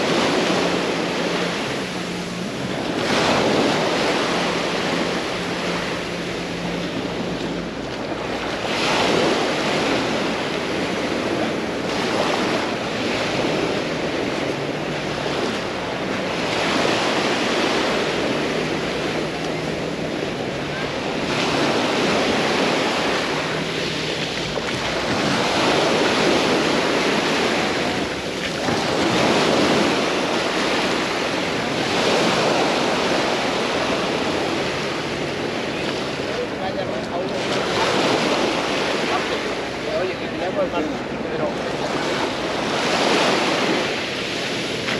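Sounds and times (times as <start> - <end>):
waves breaking on a beach: 0.0 - 44.9
wind buffeting microphone: 0.0 - 44.9.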